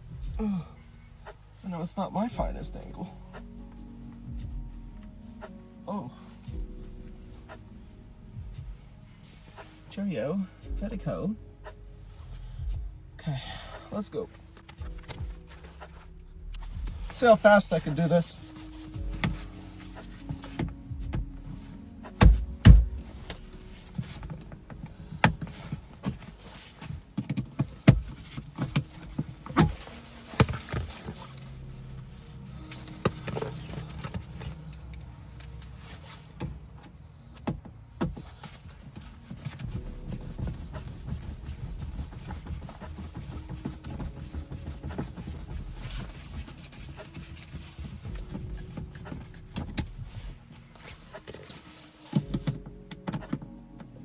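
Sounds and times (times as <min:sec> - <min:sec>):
low steady rumble: 0:00.0 - 0:54.0.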